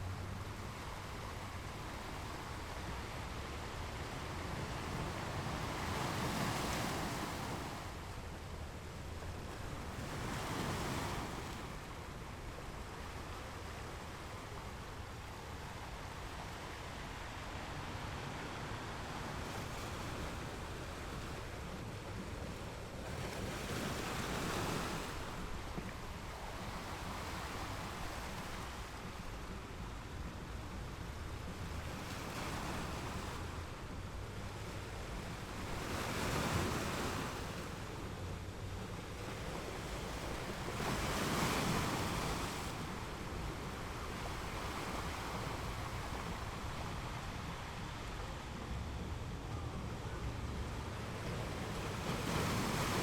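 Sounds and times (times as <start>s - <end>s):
ocean waves breaking on rocks: 1.0s - 8.2s, 15.2s - 53.0s.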